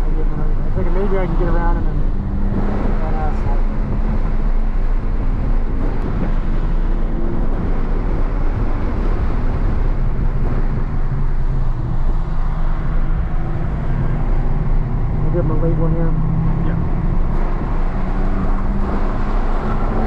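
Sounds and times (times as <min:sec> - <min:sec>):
car engine pulling at speed: 0:00.0 - 0:20.0
road and wind noise: 0:00.0 - 0:20.0.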